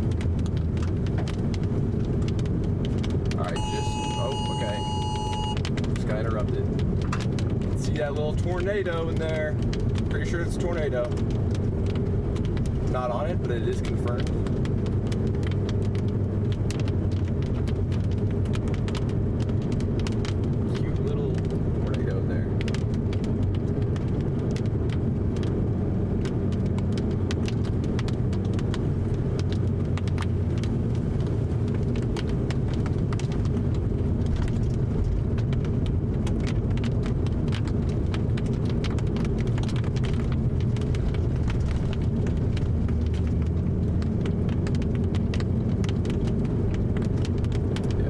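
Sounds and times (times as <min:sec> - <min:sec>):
road and engine rumble: 0:00.0 - 0:48.0
light ticks: 0:06.7 - 0:25.6, 0:26.2 - 0:48.0.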